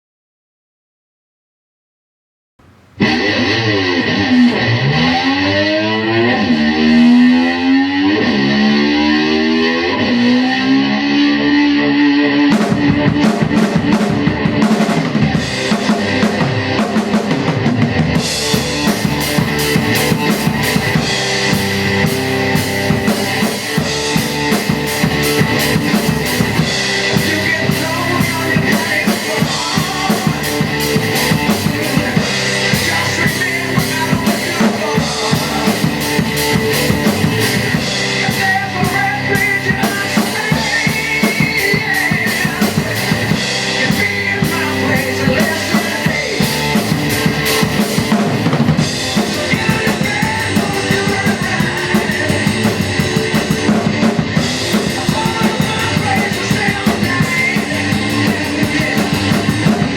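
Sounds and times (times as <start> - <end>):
rock drum kit beat: 2.6 - 10.8, 11.5 - 59.9
electric slide guitar: 3.0 - 59.9.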